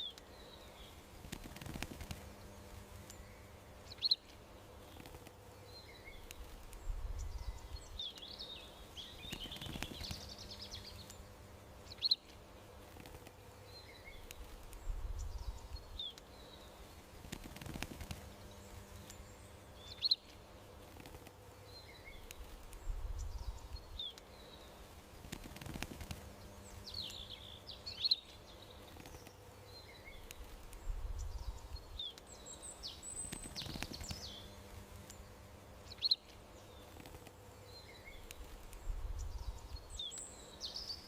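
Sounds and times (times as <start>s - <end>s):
songbirds chirping and twittering: 0.0s - 41.0s.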